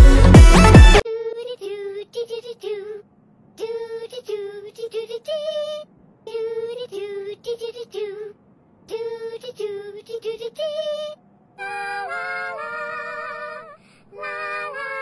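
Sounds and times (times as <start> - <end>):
high-pitched singing voice: 0.9 - 3.0, 3.6 - 15.0.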